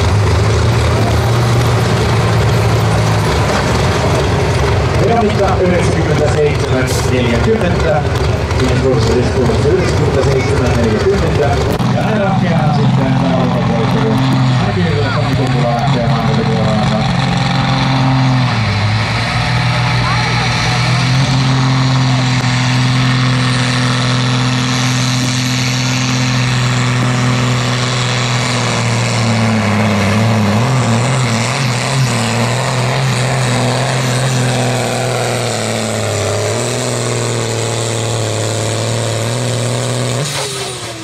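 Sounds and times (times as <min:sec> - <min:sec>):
diesel tractor engine running flat out: 0:00.0 - 0:41.0.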